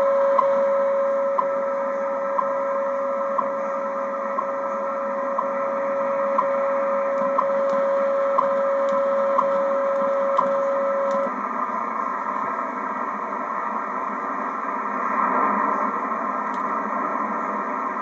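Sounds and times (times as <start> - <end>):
radio receiver hiss: 0.0 - 18.0
steady audio tone: 0.0 - 18.0.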